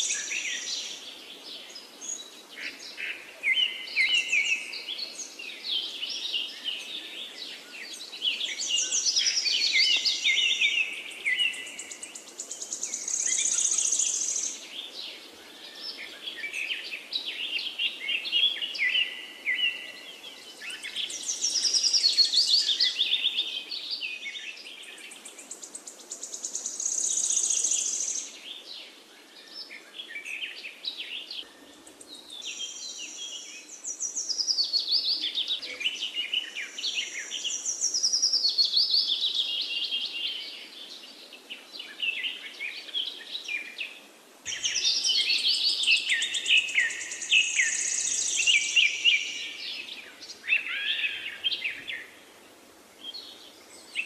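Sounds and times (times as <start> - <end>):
birds chirping and singing: 0.0 - 52.2.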